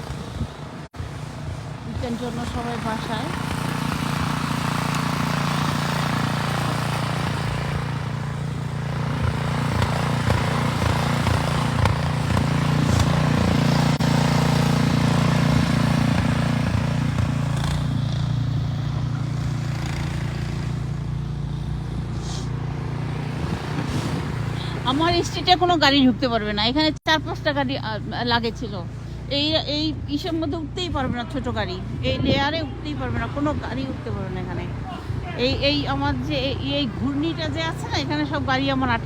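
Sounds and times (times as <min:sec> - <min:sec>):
engine humming: 0:00.0 - 0:39.0.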